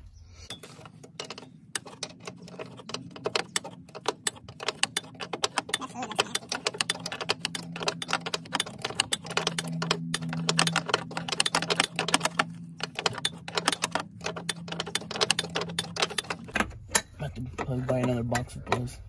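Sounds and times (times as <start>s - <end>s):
steady low hum: 0.0s - 19.0s
ratcheting wrench clicking: 0.5s - 19.0s.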